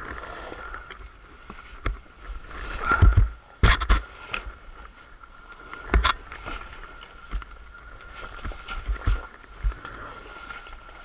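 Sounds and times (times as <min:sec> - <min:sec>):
thumps and clatter over terrain: 0:00.0 - 0:11.0.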